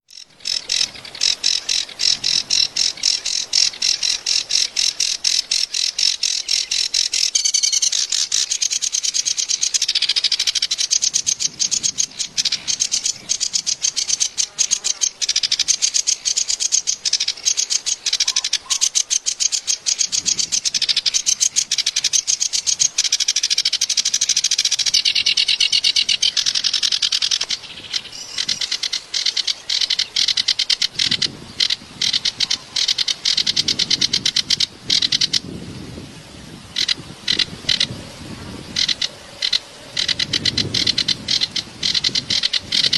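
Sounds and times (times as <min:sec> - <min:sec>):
reed warbler singing: 0:00.0 - 0:42.9.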